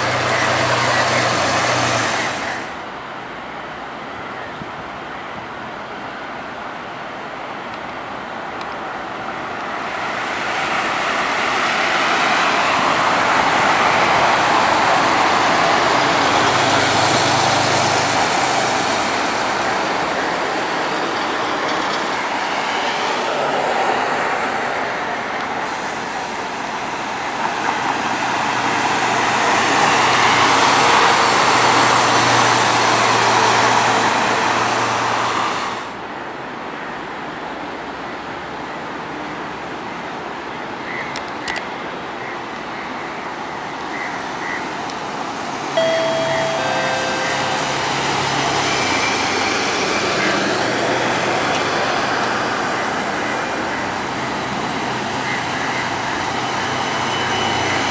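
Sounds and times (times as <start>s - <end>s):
buses driving past: 0.0s - 57.9s.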